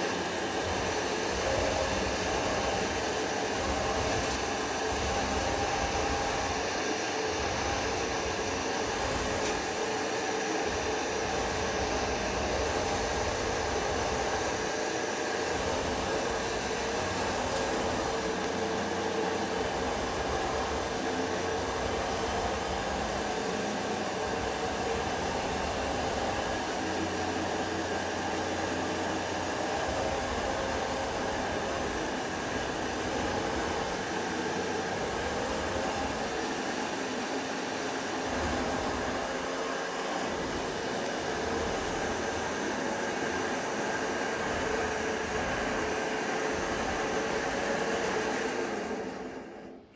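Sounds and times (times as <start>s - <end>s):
mixing machine drone: 0.0s - 49.9s.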